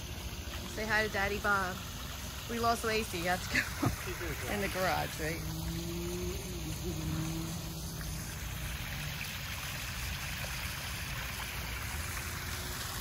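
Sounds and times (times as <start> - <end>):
waterfall splashing into pond: 0.0 - 13.0.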